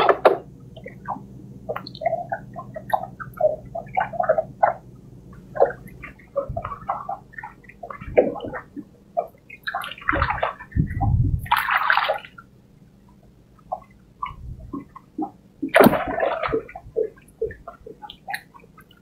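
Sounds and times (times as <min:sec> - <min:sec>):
water dripping: 0:00.0 - 0:19.0
water splashing around boat: 0:00.0 - 0:19.0.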